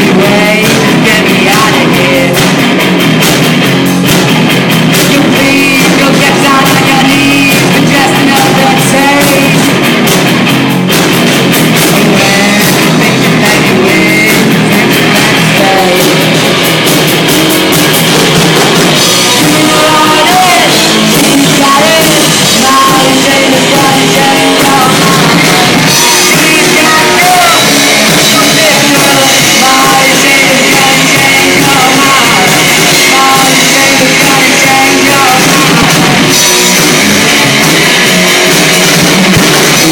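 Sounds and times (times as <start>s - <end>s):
rock music with singing: 0.0s - 39.9s.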